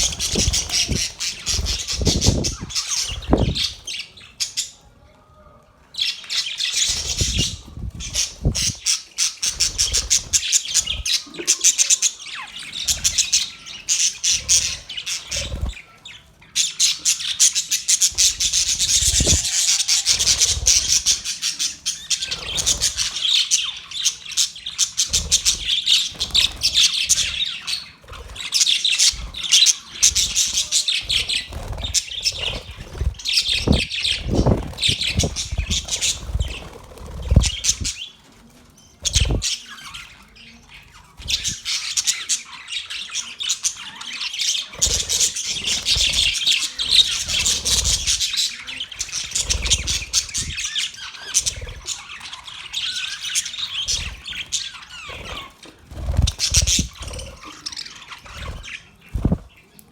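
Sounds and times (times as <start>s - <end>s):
budgerigars chattering and warbling: 0.0s - 4.8s, 6.0s - 38.2s, 38.8s - 59.9s.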